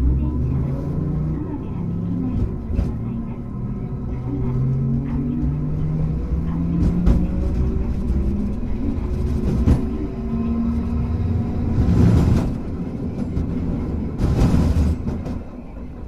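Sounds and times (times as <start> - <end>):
streetcar motor hum: 0.0 - 16.0.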